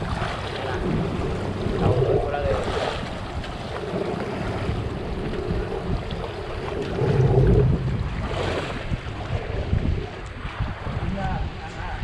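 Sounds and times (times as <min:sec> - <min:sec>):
water sloshing against boat hull: 0:00.0 - 0:11.8
wind buffeting microphone: 0:00.0 - 0:12.0.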